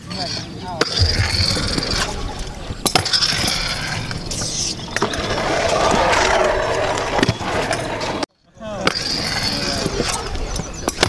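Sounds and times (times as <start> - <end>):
scooter wheels rolling on concrete: 0.0 - 11.0.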